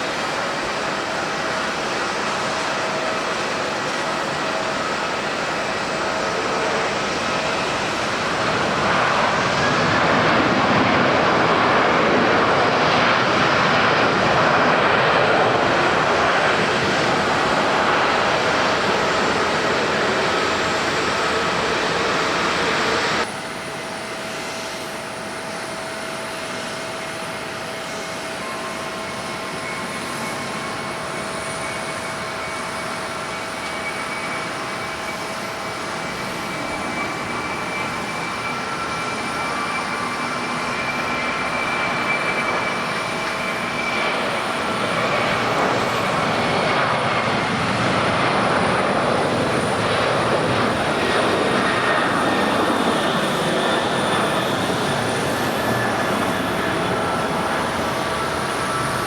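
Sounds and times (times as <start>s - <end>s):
jet engine rushing noise: 0.0s - 23.3s, 26.0s - 59.0s
jet engine high whine: 0.0s - 59.0s.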